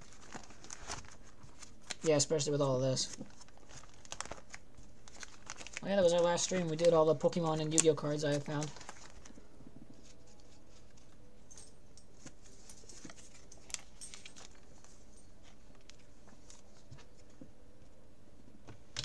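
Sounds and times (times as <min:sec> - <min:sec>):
trading cards rustling and clicking: 0:00.0 - 0:17.4.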